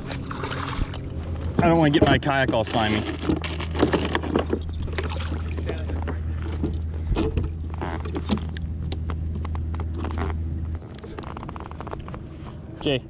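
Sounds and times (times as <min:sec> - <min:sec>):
low motor hum: 0:00.0 - 0:13.0
clicks and knocks of handling: 0:01.5 - 0:12.3.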